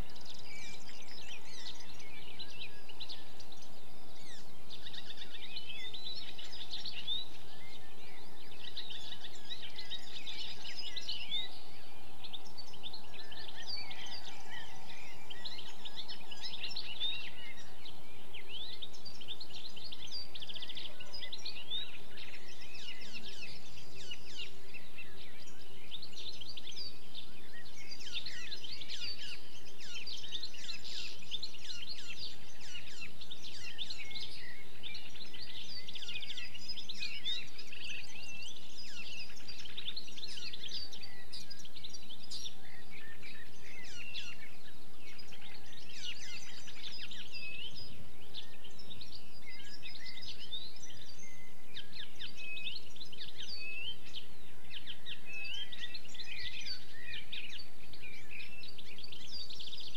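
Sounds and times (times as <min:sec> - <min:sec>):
other birdsong: 0:00.0 - 0:59.9.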